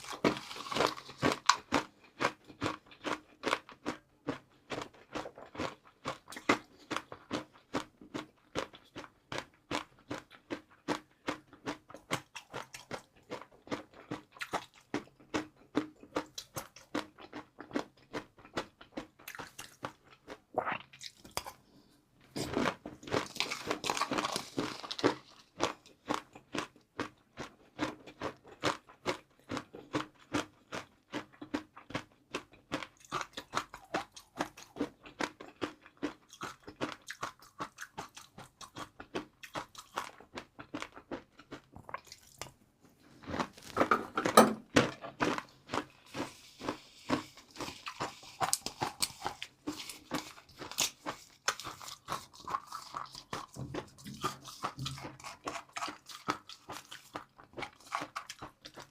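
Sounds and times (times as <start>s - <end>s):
chewing crunchy fried noodles: 0.0s - 58.9s.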